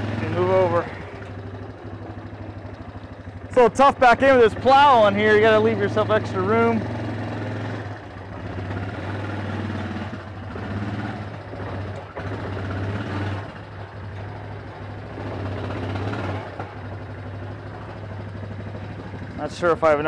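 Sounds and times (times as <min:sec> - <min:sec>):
atv engine revving: 0:00.0 - 0:20.0.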